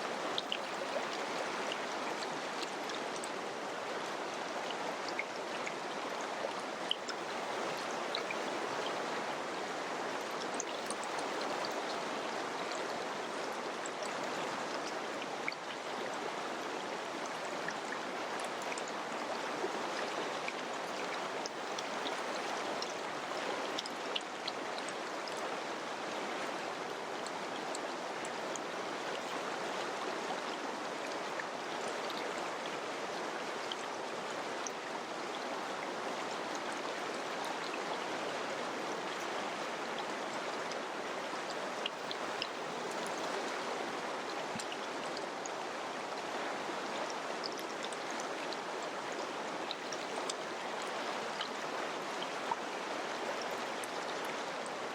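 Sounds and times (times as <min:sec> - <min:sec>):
river flowing over rocks: 0:00.0 - 0:54.9
water splashes and drips: 0:00.0 - 0:54.9.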